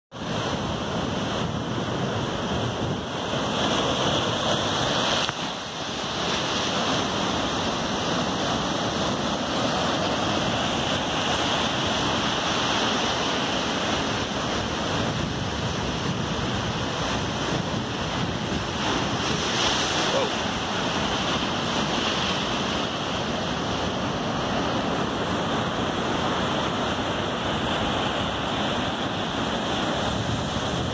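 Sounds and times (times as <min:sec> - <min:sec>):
surf breaking and washing ashore: 0:00.2 - 0:30.9
wind on microphone: 0:00.2 - 0:30.9.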